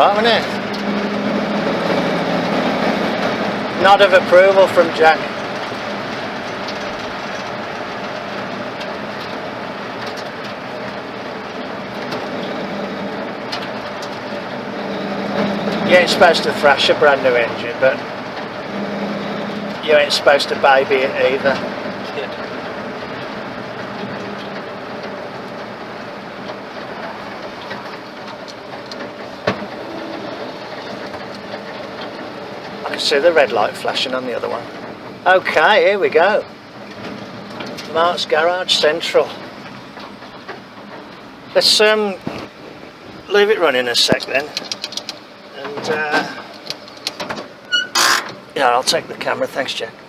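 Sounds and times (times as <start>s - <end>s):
road and cab noise: 0.0s - 50.0s
truck engine running: 0.0s - 50.0s.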